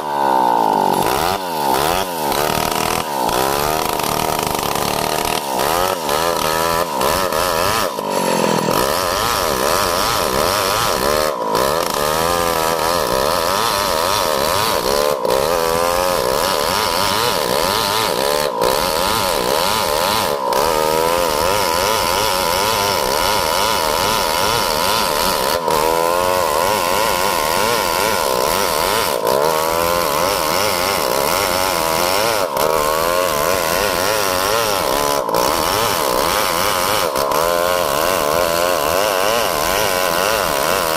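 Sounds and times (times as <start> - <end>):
chainsaw cutting a log: 0.0 - 40.9.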